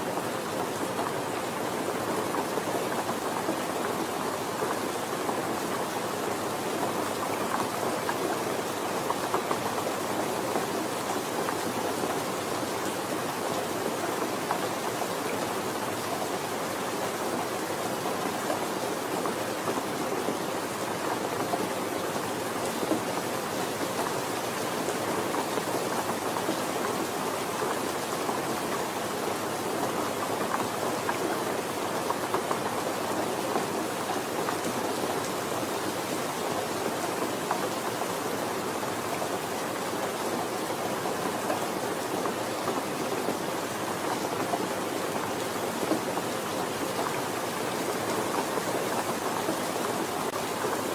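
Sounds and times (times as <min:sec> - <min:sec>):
rain patter: 0:00.0 - 0:50.9.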